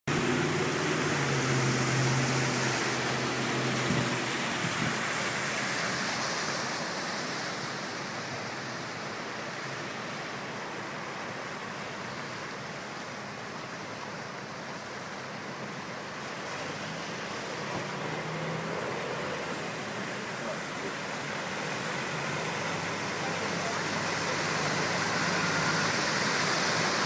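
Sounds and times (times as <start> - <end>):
floodwater rushing across road: 0.0 - 27.0
car driving through water: 0.1 - 27.0.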